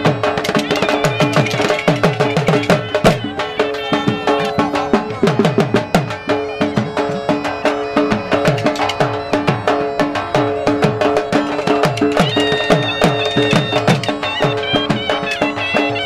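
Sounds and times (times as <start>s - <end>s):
held melody note: 0.3s - 16.0s.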